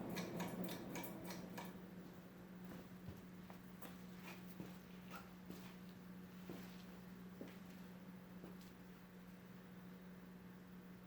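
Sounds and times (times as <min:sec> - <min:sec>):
ceiling fan coasting down: 0:00.0 - 0:11.0
low steady hum: 0:00.0 - 0:11.0.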